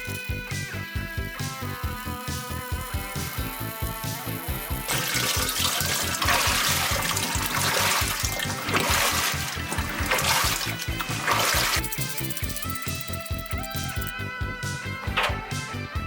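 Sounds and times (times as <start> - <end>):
water rushing in washing machine: 0.0 - 13.6
background music with steady beat: 0.0 - 16.0.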